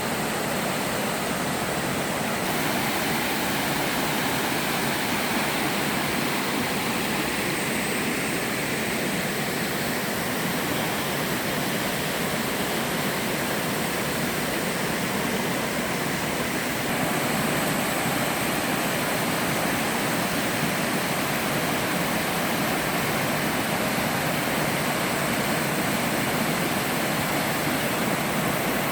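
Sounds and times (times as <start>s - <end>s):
water rushing over rock: 0.0s - 28.9s.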